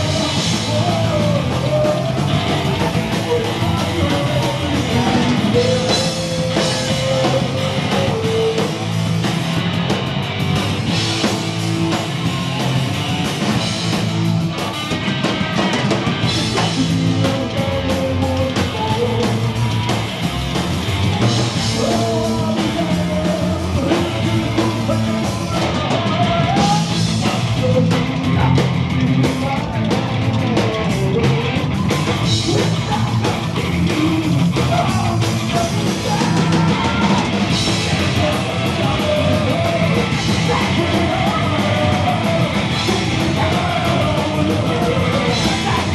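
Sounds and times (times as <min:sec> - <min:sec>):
person singing lead vocal: 0:00.0 - 0:09.0, 0:15.6 - 0:20.2, 0:20.9 - 0:45.9
bass guitar: 0:00.0 - 0:45.9
drum kit: 0:00.0 - 0:45.9
electric guitar: 0:00.0 - 0:45.9.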